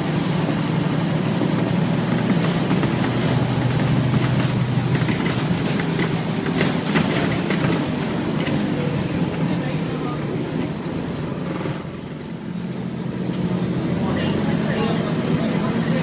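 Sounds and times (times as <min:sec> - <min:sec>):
bus engine humming: 0:00.0 - 0:16.0.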